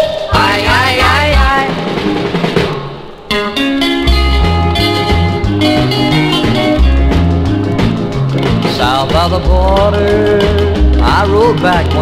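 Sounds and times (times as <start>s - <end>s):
rockabilly guitar bass and drums: 0.0s - 12.0s.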